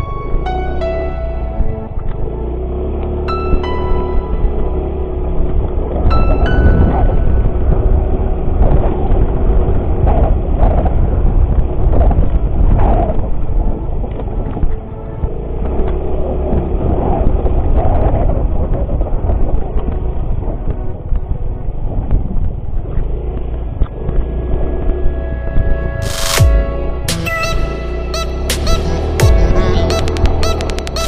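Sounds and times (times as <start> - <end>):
motorcycle engine running: 0.0 - 31.0
wind rumble on microphone: 0.0 - 31.0.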